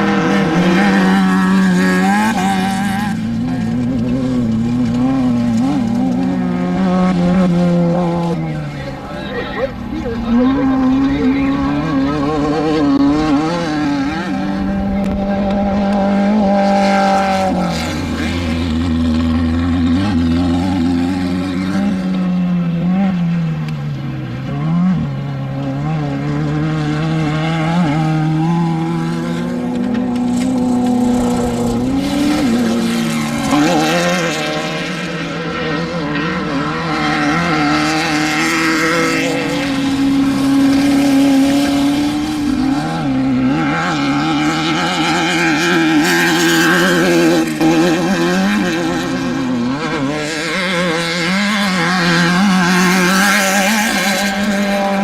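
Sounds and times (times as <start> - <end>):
engine running at high revs: 0.0 - 55.0.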